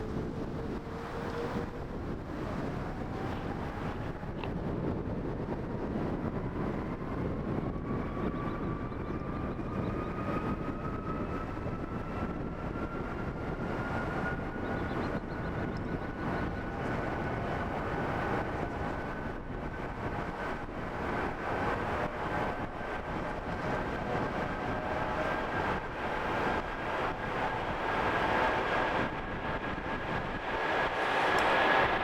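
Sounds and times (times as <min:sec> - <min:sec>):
jet engines rumbling and whining: 0:00.0 - 0:32.0.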